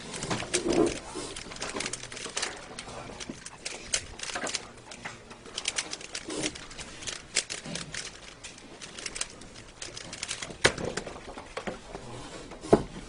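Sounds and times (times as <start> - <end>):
rubik's cube clicking: 0.0 - 11.1.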